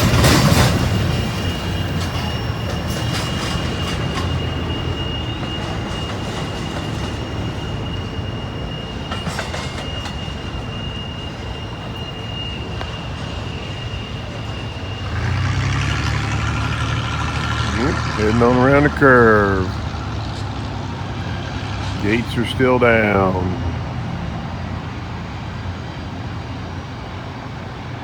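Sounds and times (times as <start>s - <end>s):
high wheel squeal: 0.0s - 24.7s
freight train rumbling past: 0.0s - 28.0s.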